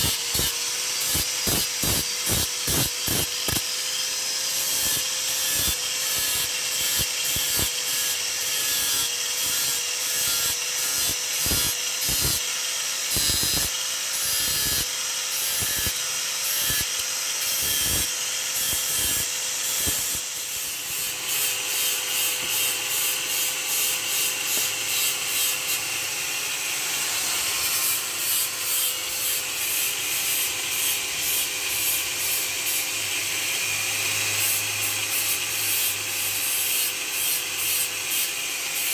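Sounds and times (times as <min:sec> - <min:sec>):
angle grinder whining: 0:00.0 - 0:38.9.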